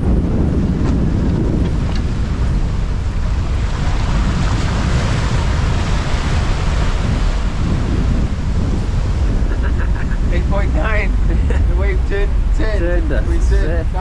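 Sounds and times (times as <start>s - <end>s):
breaking sea water rushing: 0.0s - 14.0s
wind buffeting microphone: 0.0s - 14.0s.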